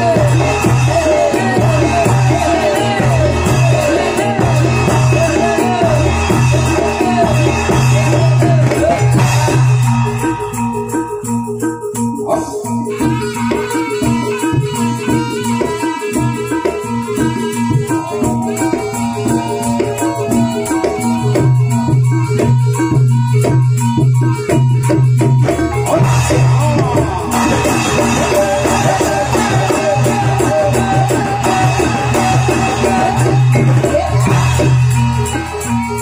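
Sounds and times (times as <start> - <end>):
fast percussion ensemble: 0.0 - 36.0
high wavering melody: 0.0 - 36.0.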